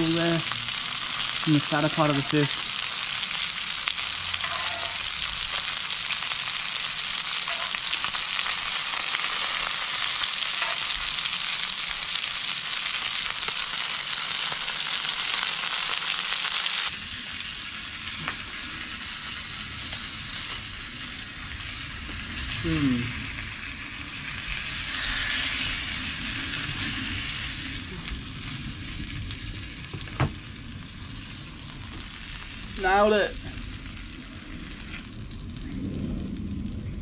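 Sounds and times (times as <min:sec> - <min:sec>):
fish sizzling in oil: 0:00.0 - 0:35.8.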